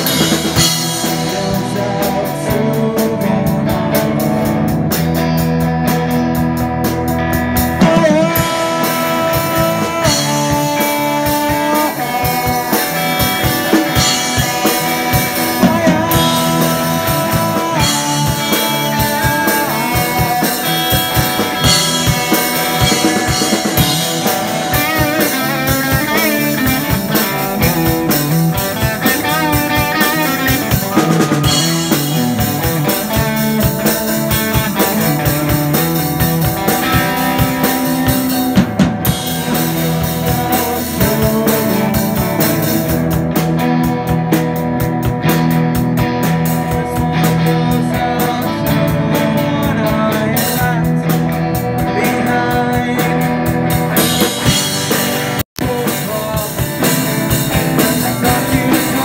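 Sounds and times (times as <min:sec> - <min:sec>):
lead guitar bending notes: 0:00.0 - 0:59.0
rock band playing: 0:00.0 - 0:59.0
steady drumming: 0:00.0 - 0:59.0.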